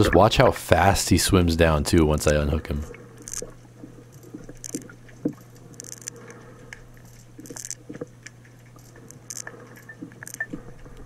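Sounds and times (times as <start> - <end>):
steady low hum: 0.0 - 11.0
underwater clicks and ticks: 2.0 - 11.0.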